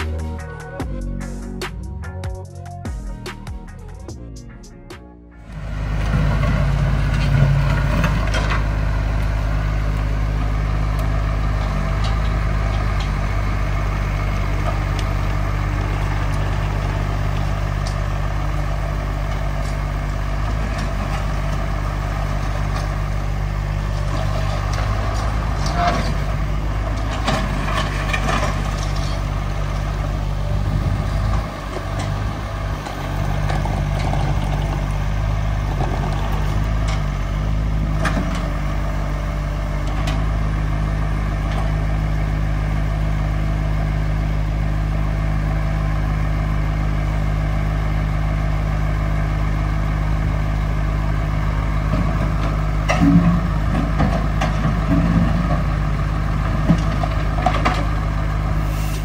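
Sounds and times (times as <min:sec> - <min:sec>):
digger engine running: 0:00.0 - 0:59.0.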